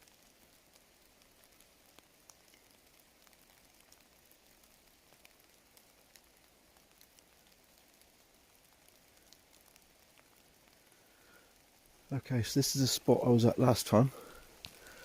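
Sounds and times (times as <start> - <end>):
light rain hiss: 0.0 - 15.0
raindrops ticking: 0.0 - 15.0.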